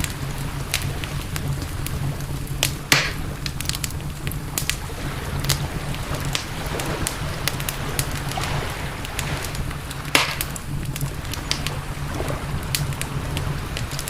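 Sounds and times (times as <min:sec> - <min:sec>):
campfire crackling: 0:00.0 - 0:14.0
low rumble: 0:00.0 - 0:14.0.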